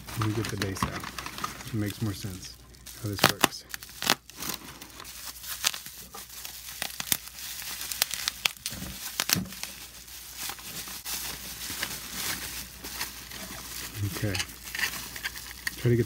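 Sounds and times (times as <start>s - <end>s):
bubble wrap crinkling and snapping: 0.0s - 16.0s.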